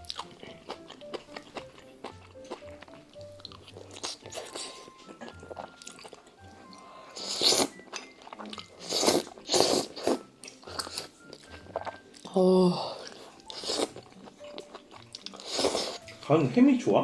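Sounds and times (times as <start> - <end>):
close chewing and biting: 0.0 - 16.3
light background music: 0.0 - 17.0.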